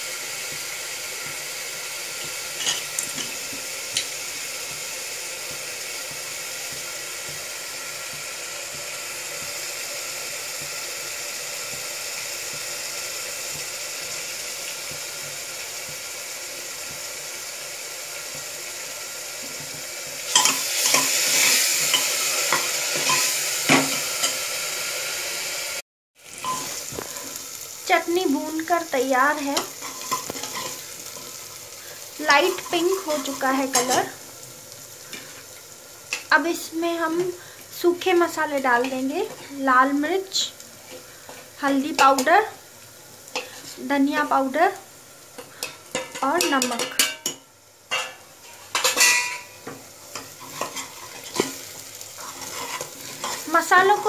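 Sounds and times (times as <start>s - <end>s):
chutney sizzling in hot oil: 0.0s - 54.0s.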